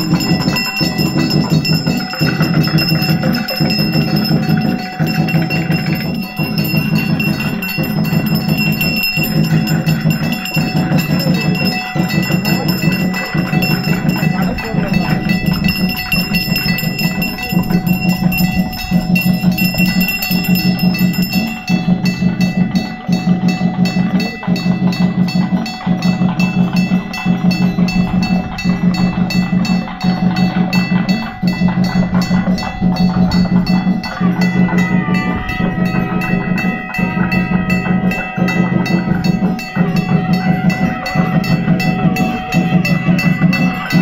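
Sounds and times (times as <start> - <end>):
bells ringing rapidly: 0.0 - 44.0
steady rhythmic beat: 0.0 - 44.0.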